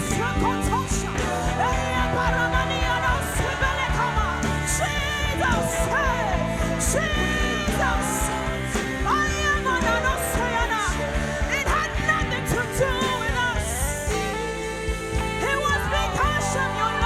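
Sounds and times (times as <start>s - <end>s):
worship band music: 0.0s - 17.0s.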